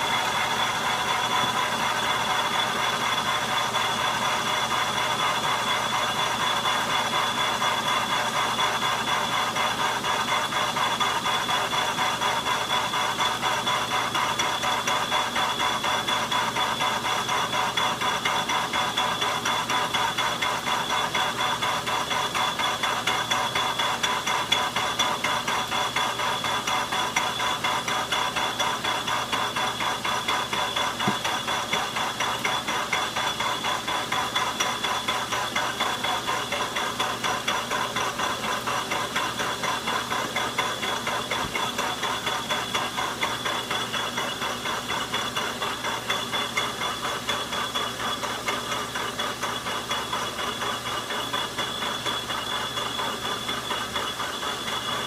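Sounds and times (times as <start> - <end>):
metal lathe whining: 0.0 - 55.0.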